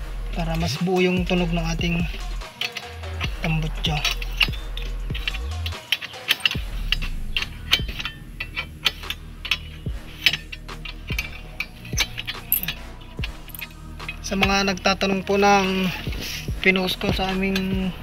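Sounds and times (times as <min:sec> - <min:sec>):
ratchet wrench clicking: 0:01.7 - 0:17.8.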